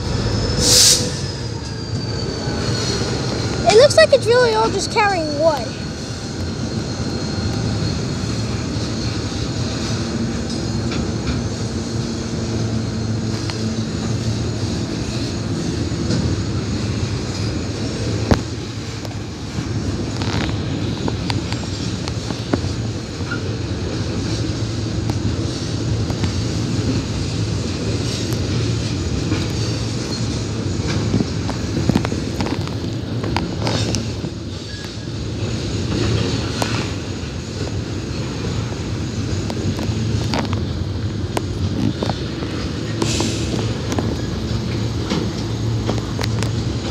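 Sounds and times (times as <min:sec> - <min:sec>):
rail clicks: 0:00.0 - 0:46.9
train wheels rumbling on track: 0:00.0 - 0:46.9.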